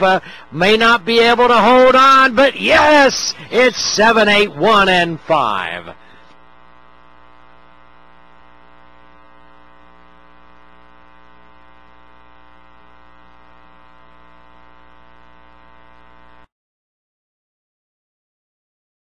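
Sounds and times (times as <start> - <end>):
electrical mains hum: 0.0 - 16.5.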